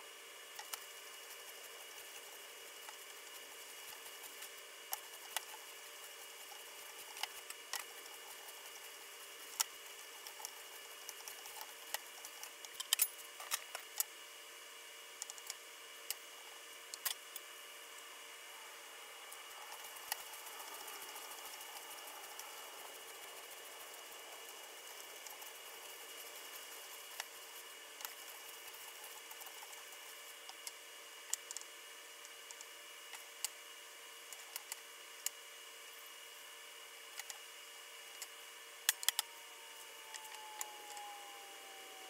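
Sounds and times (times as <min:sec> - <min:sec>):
room hum: 0:00.0 - 0:42.0.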